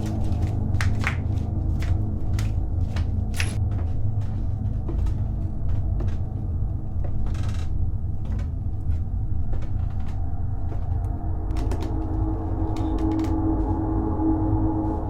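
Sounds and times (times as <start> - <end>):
low droning rumble: 0.0 - 15.0.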